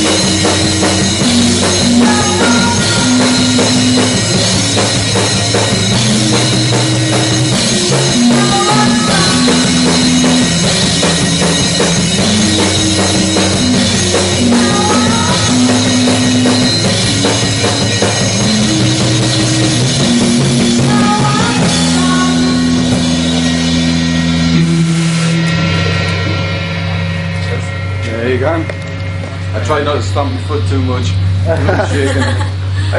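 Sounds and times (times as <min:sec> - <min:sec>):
guitar with sliding notes: 0:00.0 - 0:32.7
bass guitar line: 0:00.0 - 0:32.9
drum kit with bass drum: 0:00.0 - 0:32.9.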